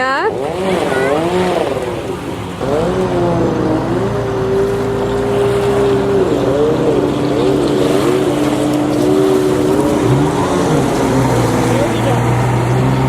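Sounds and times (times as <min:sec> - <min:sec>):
jet ski engine revving: 0:00.0 - 0:13.0.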